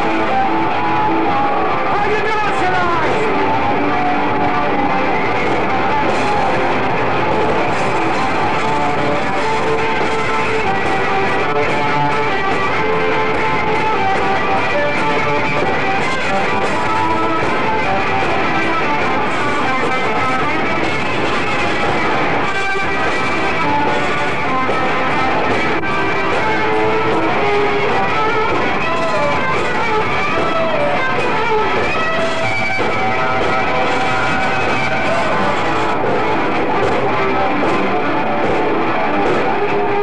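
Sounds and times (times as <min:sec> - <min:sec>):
bass guitar: 0:00.0 - 0:40.0
drums: 0:00.0 - 0:40.0
electric guitar: 0:00.0 - 0:40.0.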